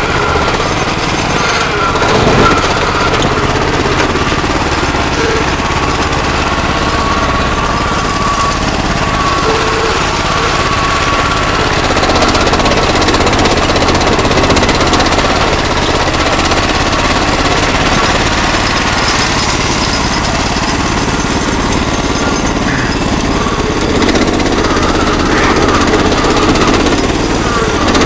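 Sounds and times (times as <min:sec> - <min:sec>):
small tractor engine chattering: 0:00.0 - 0:28.0.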